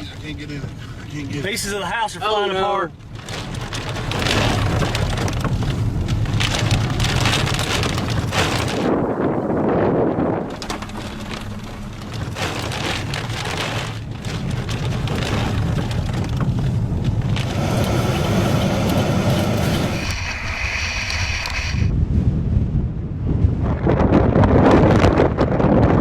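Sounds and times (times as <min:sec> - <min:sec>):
wind: 0:00.0 - 0:26.0
heavy rain: 0:00.1 - 0:21.8.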